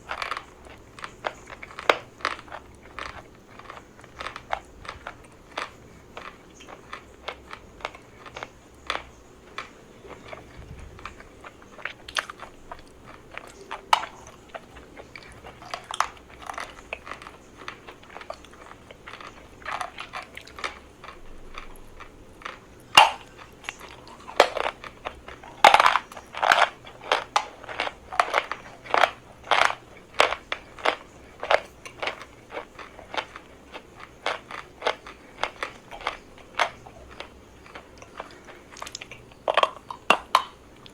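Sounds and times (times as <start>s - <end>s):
person crunching chalk: 0.1s - 39.4s.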